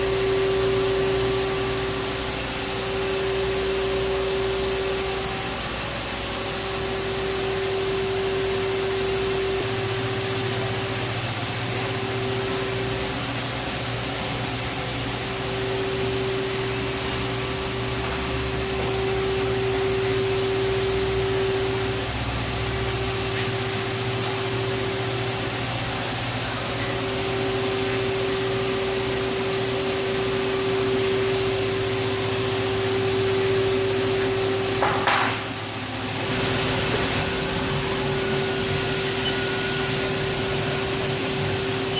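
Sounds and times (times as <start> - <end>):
lathe machine hum: 0.0 - 41.9.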